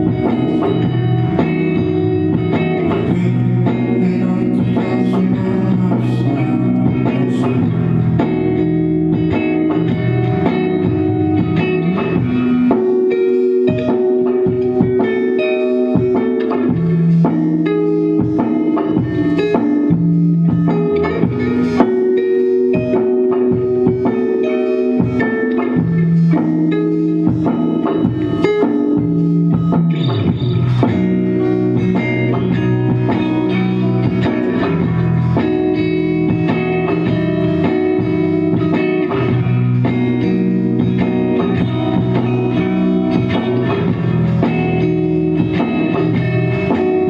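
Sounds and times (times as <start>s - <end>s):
bass guitar line: 0.0s - 47.0s
electric guitar chords: 0.0s - 47.0s
live band instrumental: 0.0s - 47.0s.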